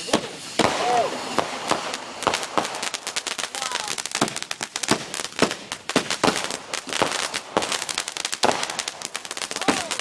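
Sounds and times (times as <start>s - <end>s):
fireworks cracking and popping: 0.0s - 10.0s
fireworks hissing: 0.0s - 10.0s.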